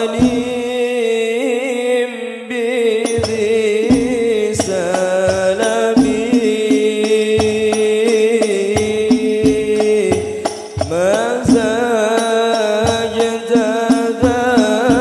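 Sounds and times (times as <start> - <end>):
frame drums beating: 0.0 - 0.8, 3.0 - 15.0
man singing through a microphone: 0.0 - 15.0.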